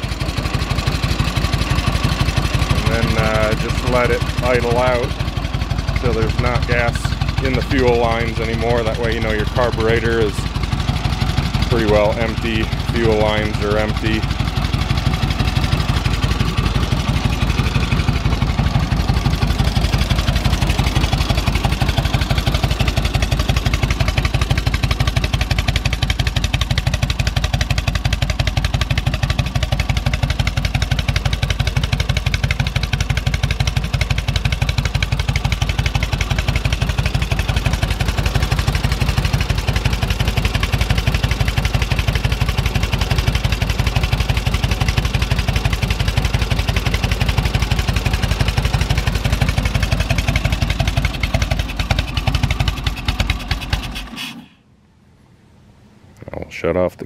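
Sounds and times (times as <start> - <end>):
motorcycle engine idling: 0.0 - 54.2.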